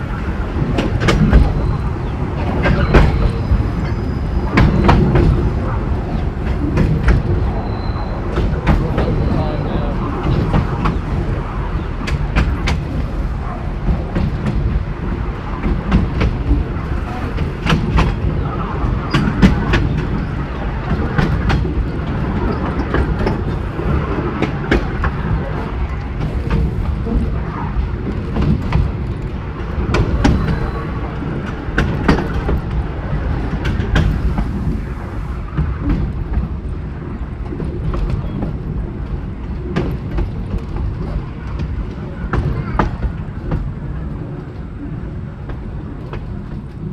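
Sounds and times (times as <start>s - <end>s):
train rumbling on track: 0.0s - 46.9s
wheels clicking over rail joints: 0.0s - 46.9s.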